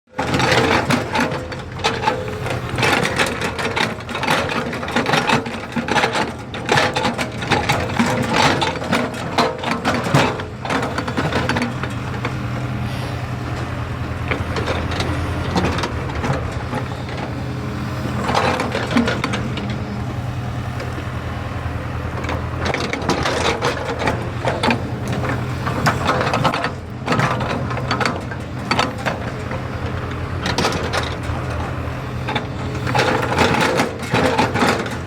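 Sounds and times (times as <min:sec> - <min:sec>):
diesel engine running: 0:00.1 - 0:35.0
rattling and clanking: 0:00.2 - 0:35.0.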